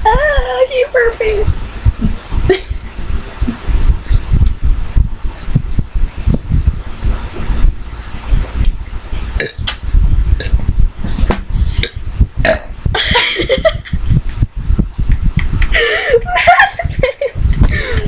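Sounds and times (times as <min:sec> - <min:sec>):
constant low rumble: 0:00.0 - 0:18.0.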